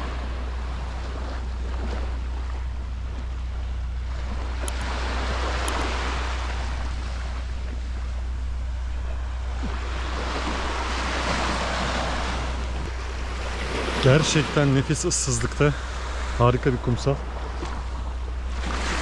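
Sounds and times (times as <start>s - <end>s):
waves washing onto beach: 0.0s - 2.7s, 4.0s - 8.1s, 9.2s - 19.0s
low rumble: 0.0s - 19.0s.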